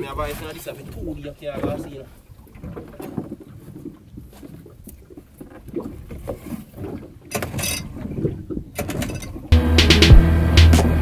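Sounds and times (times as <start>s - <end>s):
water lapping against boat hull: 0.0s - 9.6s.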